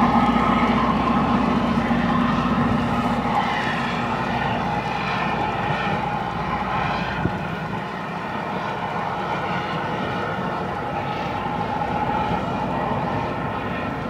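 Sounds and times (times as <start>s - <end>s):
rail grinder roaring whine: 0.0s - 14.0s.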